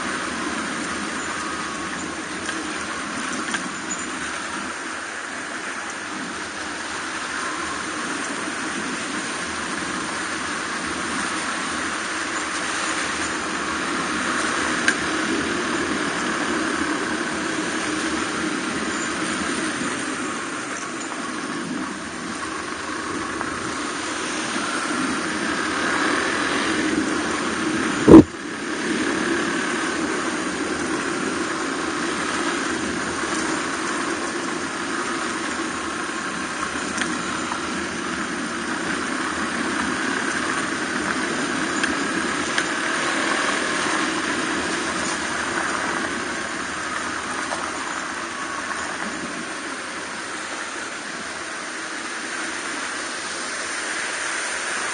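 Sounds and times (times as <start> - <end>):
motorcycle engine running: 6.0 - 52.8.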